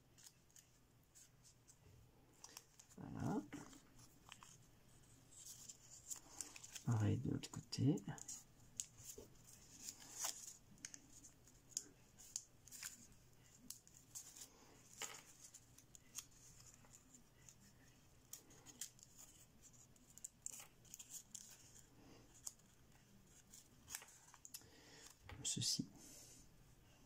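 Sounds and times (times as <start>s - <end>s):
paper being folded and creased: 0.0s - 1.8s, 2.4s - 6.9s, 8.2s - 25.2s.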